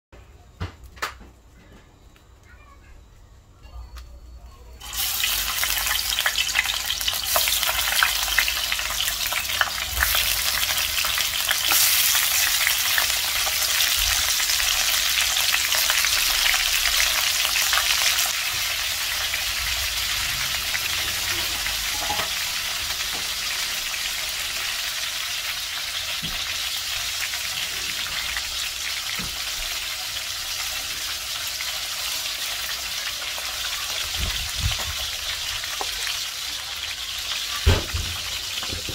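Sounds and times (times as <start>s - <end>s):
fish sizzling in hot oil: 4.8s - 38.9s.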